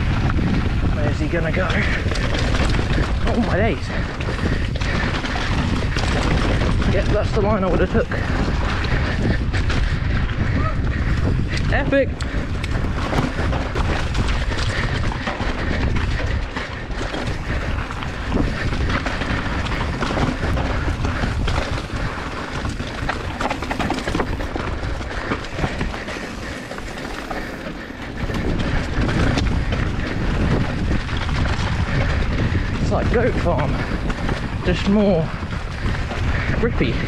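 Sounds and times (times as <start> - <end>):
bike rattling and knocking: 0.0 - 37.0
tyres on dirt trail: 0.0 - 37.0
wind buffeting microphone: 0.0 - 37.0.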